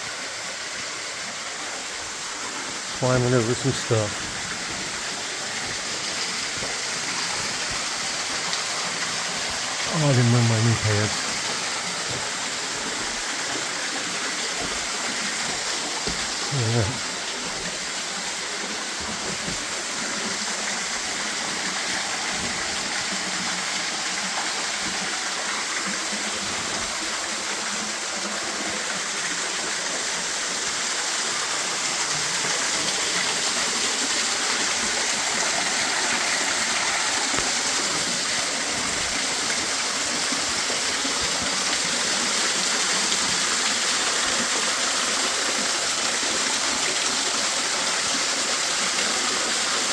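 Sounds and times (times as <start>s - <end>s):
small waterfall rushing: 0.0s - 49.9s.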